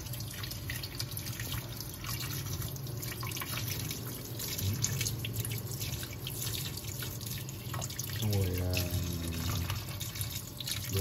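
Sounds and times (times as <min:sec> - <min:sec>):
hands rinsing clams: 0:00.0 - 0:11.0
tap water splashing in sink: 0:00.0 - 0:11.0.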